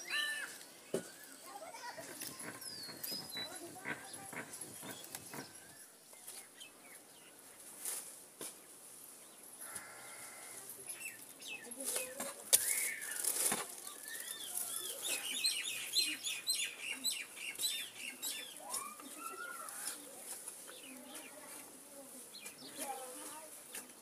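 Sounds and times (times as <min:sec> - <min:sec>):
birds chirping: 0:00.0 - 0:07.7, 0:08.6 - 0:23.8.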